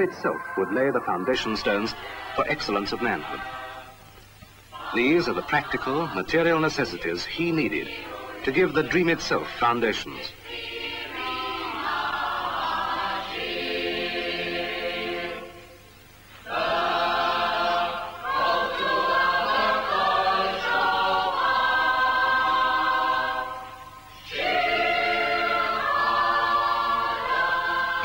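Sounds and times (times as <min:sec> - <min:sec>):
choir singing sustained chords: 0:00.0 - 0:28.0.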